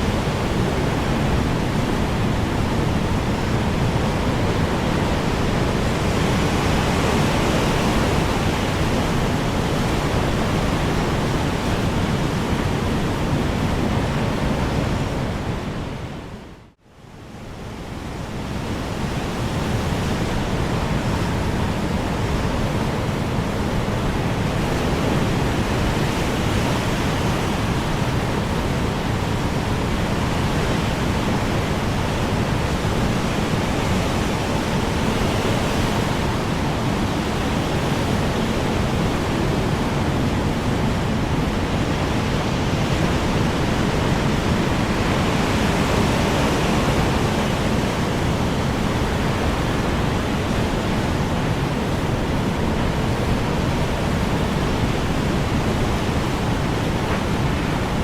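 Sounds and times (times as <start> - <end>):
strong wind blowing: 0.0 - 58.0.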